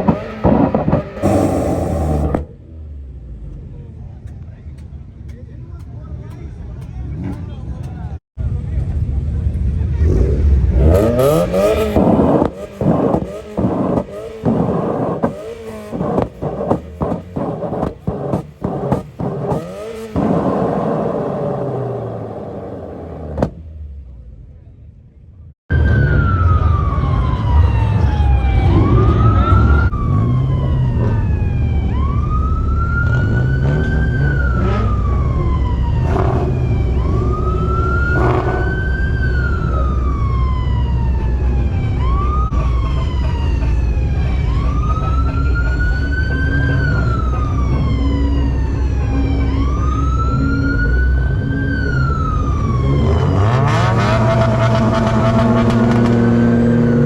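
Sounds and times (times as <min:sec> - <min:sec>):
emergency siren wailing: 0:00.0 - 0:02.5, 0:10.1 - 0:23.4, 0:25.7 - 0:57.0
low vehicle engine rumble: 0:00.0 - 0:57.0.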